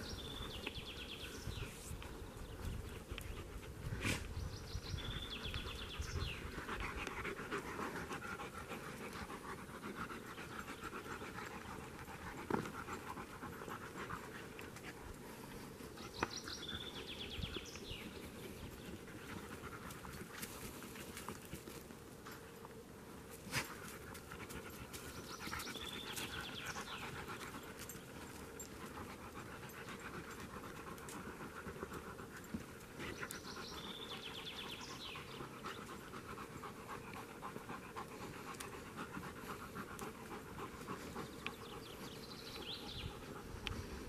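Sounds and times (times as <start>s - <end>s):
dog panting: 4.9s - 21.9s, 23.5s - 44.0s.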